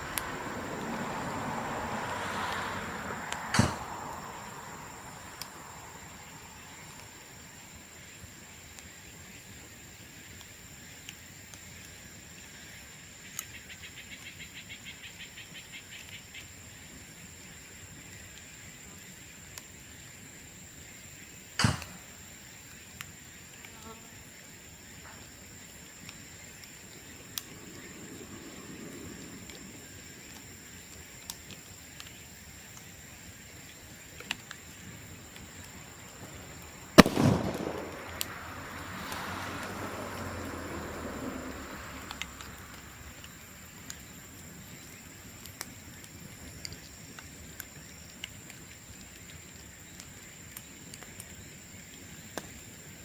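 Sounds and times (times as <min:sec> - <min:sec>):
bamboo bonfire hissing and popping: 0:00.0 - 0:53.0.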